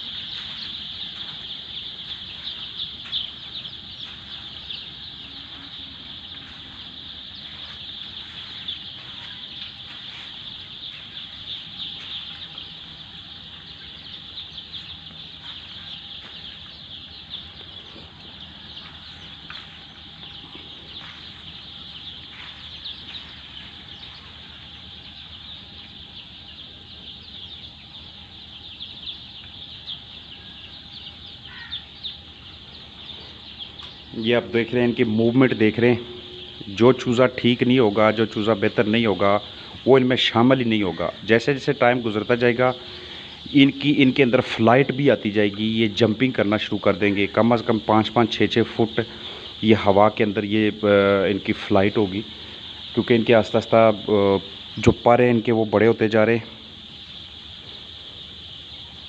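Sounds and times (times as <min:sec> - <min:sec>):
chicks peeping: 0:00.0 - 0:59.0
faint steady hum: 0:00.0 - 0:59.0.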